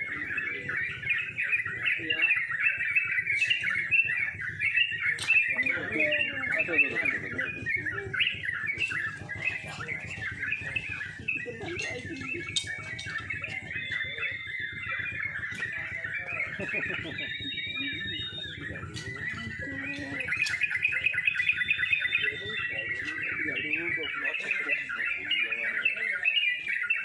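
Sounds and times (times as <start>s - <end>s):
chorus of songbirds singing: 0.0s - 27.0s
murmur of people: 0.0s - 27.0s.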